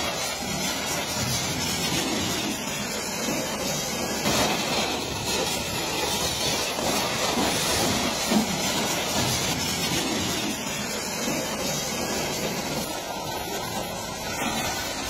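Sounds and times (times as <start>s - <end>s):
pressure washer spray hissing: 0.0s - 15.0s.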